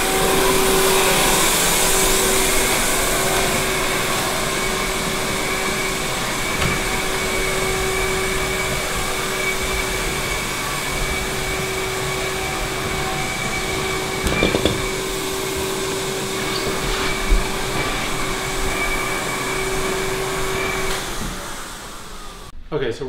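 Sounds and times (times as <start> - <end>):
vacuum motor whine: 0.0 - 22.6.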